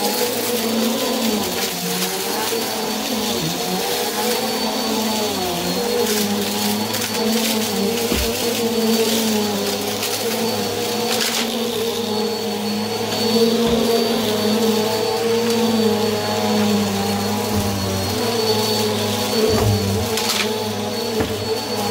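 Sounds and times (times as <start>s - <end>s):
vacuum cleaner motor hum: 0.0s - 21.9s.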